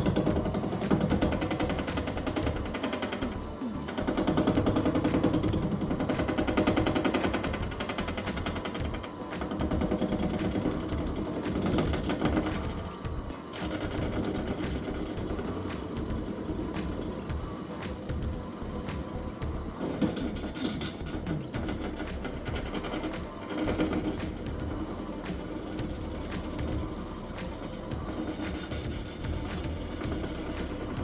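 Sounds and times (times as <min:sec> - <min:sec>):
background music: 0:00.0 - 0:31.0
lathe tool chattering: 0:00.0 - 0:31.0.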